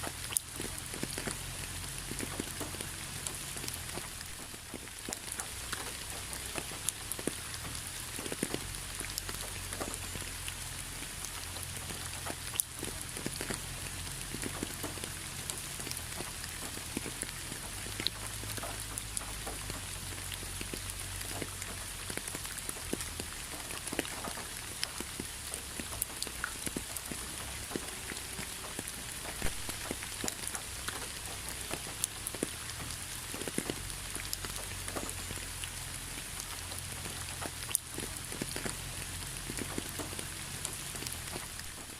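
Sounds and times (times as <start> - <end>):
rain hiss: 0.0 - 41.9
raindrops ticking: 0.0 - 41.9.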